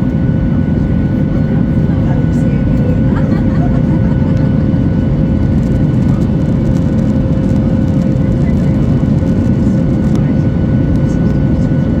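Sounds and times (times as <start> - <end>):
airplane cabin engine rumble: 0.0 - 12.0
thin steady whine: 0.0 - 12.0.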